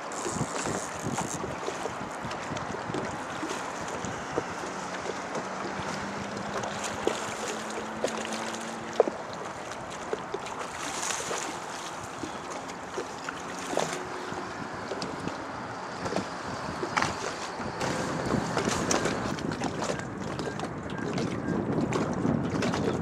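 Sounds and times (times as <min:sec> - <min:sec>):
water slapping boat hull: 0:00.0 - 0:23.0
wind buffeting microphone: 0:00.0 - 0:23.0.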